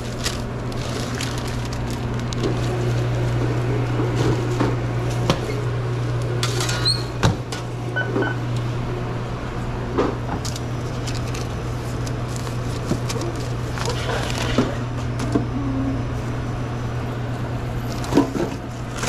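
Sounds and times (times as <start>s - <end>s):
kitchen equipment hum: 0.0s - 19.0s.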